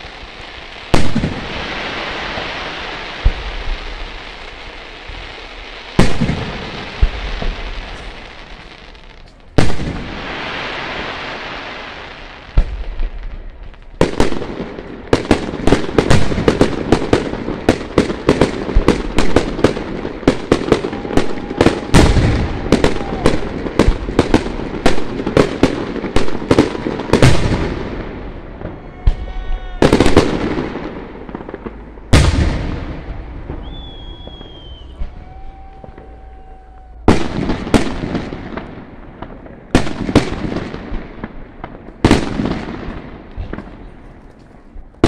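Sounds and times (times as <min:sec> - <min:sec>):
fireworks bangs: 0:00.0 - 0:45.0
fireworks crackling bursts: 0:00.0 - 0:45.0.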